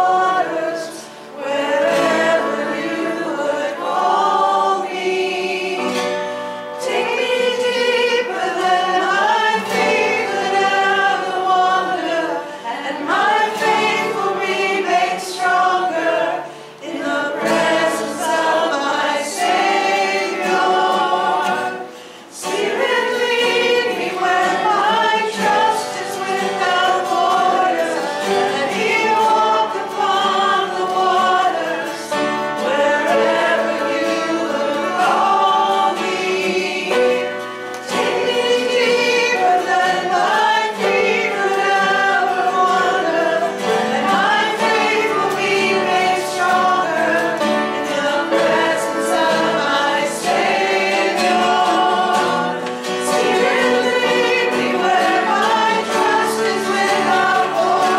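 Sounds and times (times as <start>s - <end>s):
choir singing a hymn: 0.0s - 57.9s.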